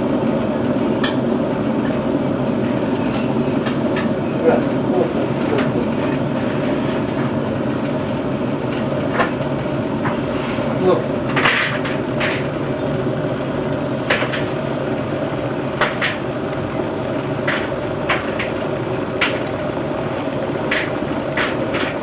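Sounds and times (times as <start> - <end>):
kettle water heating rush: 0.0 - 22.0.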